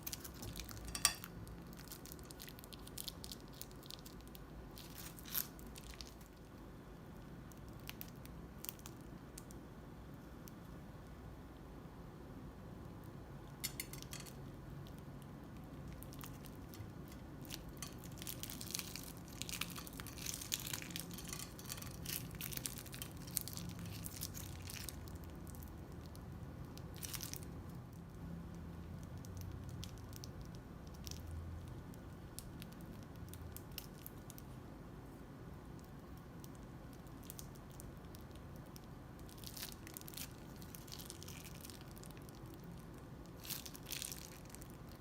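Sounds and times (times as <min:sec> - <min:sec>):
slime squishing and crackling: 0:00.0 - 0:06.6, 0:07.2 - 0:09.6, 0:13.6 - 0:34.6, 0:35.6 - 0:45.0.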